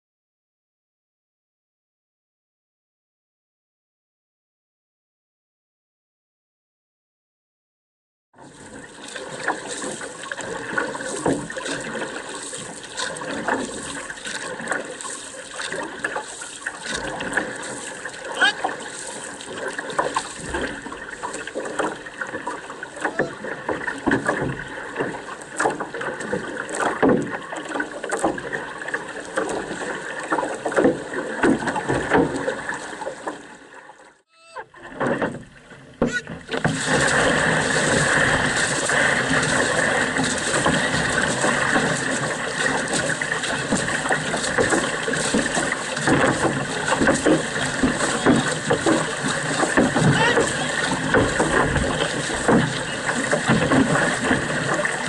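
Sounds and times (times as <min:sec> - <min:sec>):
paddles splashing in water: 0:08.4 - 0:55.0
water and wind rushing: 0:08.4 - 0:55.0.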